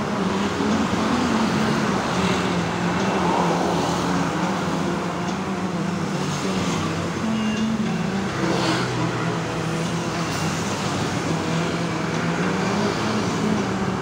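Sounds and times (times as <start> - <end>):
low hum of vehicle engines: 0.0 - 14.0
road traffic noise: 0.0 - 14.0.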